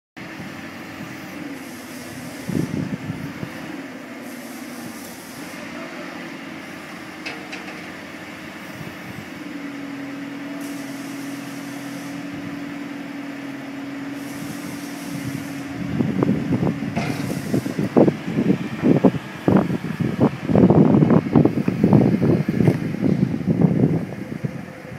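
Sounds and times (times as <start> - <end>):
wind buffeting microphone: 0.2 - 5.6, 6.6 - 11.5, 12.1 - 24.9
forklift engine running: 0.2 - 24.9
hydraulic hum: 0.3 - 24.9.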